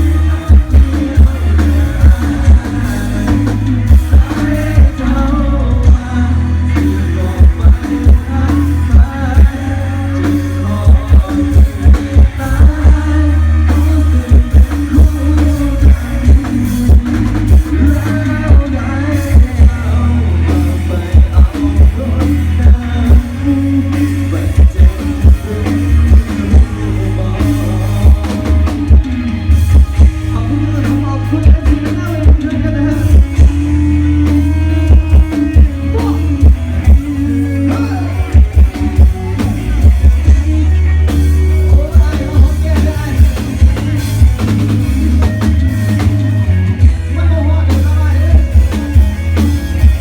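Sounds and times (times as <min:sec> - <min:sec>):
booming bass: 0:00.0 - 0:50.0
live band over loudspeakers: 0:00.0 - 0:50.0
person singing: 0:00.0 - 0:50.0.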